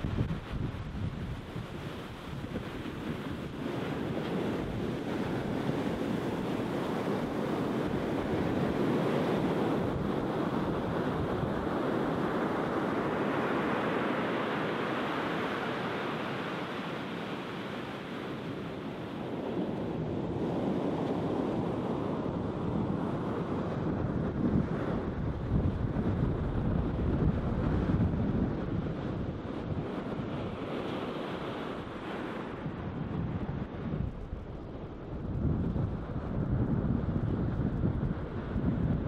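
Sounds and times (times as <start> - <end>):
surf breaking on beach: 0.0 - 39.0
wind rumbling on microphone: 0.0 - 39.0.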